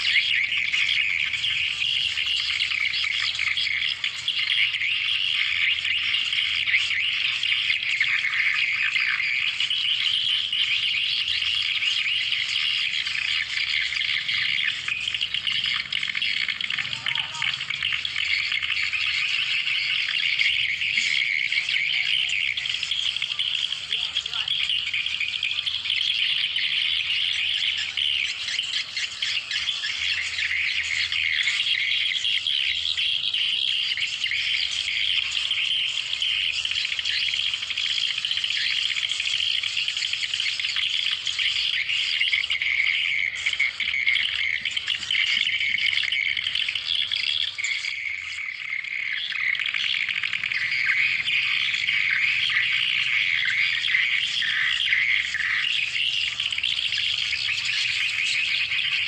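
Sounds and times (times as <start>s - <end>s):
swiftlet twittering chatter: 0.0s - 59.0s.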